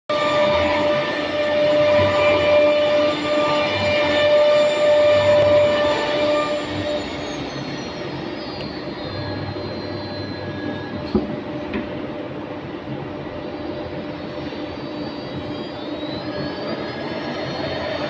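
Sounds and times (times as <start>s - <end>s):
machine hum: 0.1s - 18.0s
router spindle whine: 0.1s - 18.0s.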